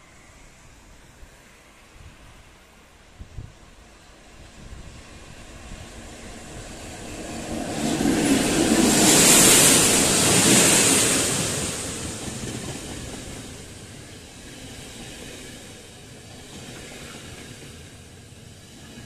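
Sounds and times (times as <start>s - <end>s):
electric locomotive passing: 0.0s - 19.0s
train rumble and rail noise: 0.0s - 19.0s.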